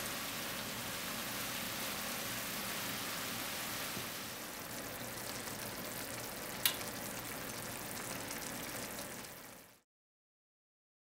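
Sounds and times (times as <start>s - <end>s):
food sizzling in a skillet: 0.0s - 9.6s.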